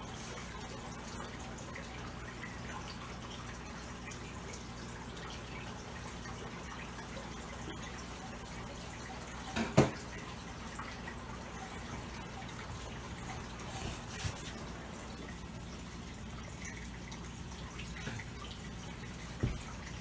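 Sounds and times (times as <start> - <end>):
water dripping and trickling: 0.0 - 20.0.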